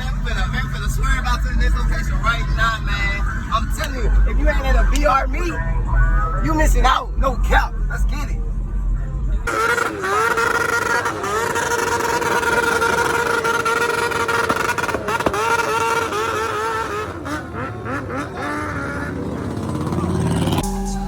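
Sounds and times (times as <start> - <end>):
vehicle engine revving: 0.0 - 21.0.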